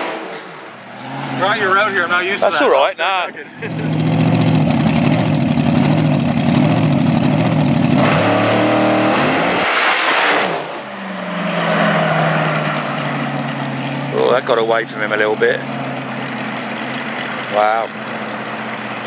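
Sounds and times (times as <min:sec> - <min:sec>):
dragster engine roaring: 0:00.0 - 0:19.0.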